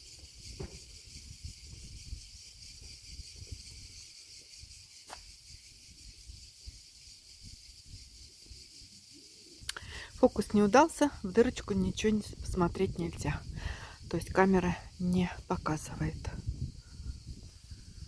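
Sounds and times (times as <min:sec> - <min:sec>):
low wind rumble on microphone: 0:00.0 - 0:08.6, 0:09.6 - 0:18.0
insects chirring: 0:00.0 - 0:18.0.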